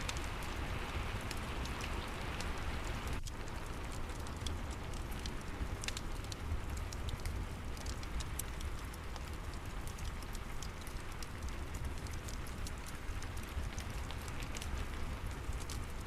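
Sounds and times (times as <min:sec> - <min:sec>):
fireplace crackling: 0:00.0 - 0:16.0
steady rain rumble: 0:00.0 - 0:16.0.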